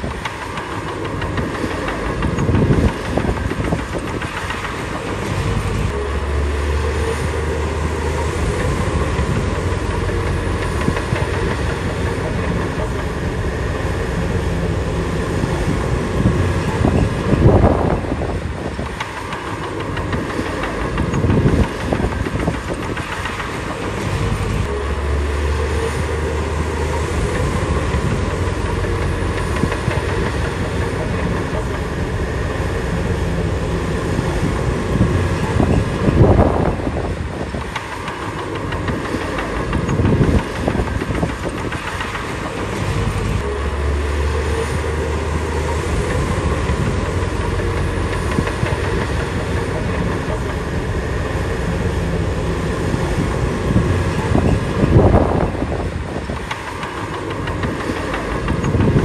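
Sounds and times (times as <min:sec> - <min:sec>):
bulldozer diesel engine running: 0:00.0 - 0:59.0
steel tracks clanking: 0:00.0 - 0:59.0.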